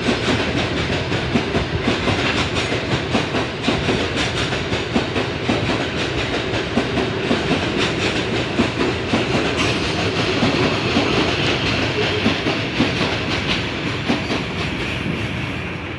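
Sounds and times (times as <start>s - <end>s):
train wheels clattering over rails: 0.0s - 15.9s.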